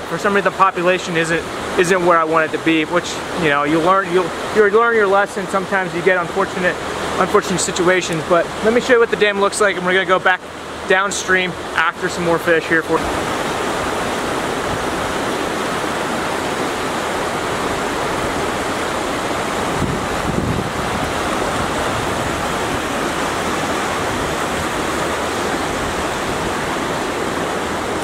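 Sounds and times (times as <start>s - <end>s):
river rushing over boulders: 0.0s - 28.0s.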